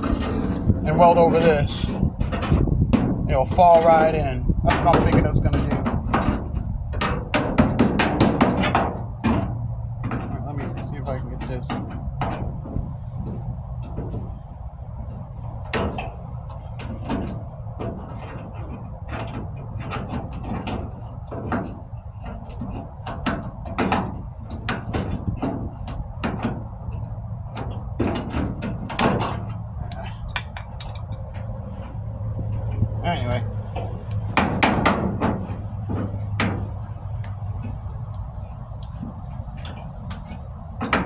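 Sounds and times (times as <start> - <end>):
metallic clicks and knocks: 0.0 - 41.0.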